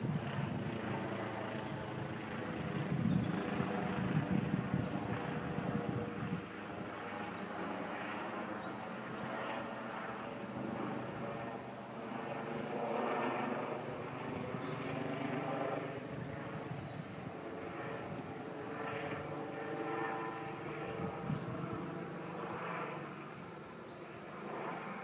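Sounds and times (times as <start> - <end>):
helicopter rotor chop and drone: 0.0 - 25.0.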